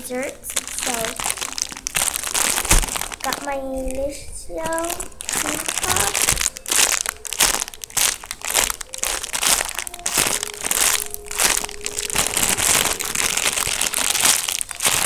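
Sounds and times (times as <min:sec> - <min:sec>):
wrapping crumpled and rustled: 0:00.0 - 0:15.0.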